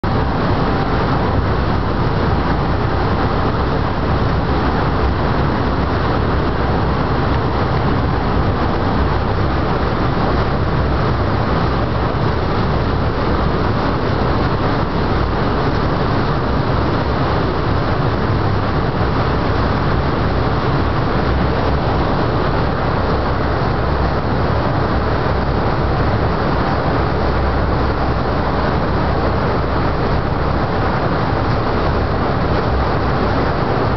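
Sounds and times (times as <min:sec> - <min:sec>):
boat motor running: 0:00.1 - 0:33.9
wake water rushing: 0:00.1 - 0:33.9.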